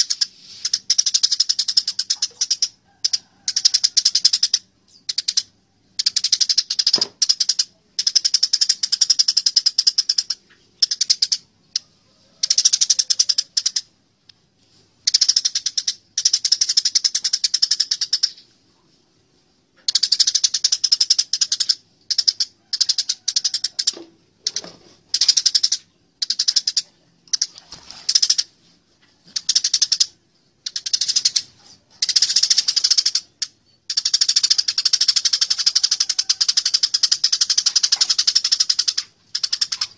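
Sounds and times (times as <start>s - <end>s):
sparrows chattering: 0.0s - 13.9s, 14.6s - 39.9s.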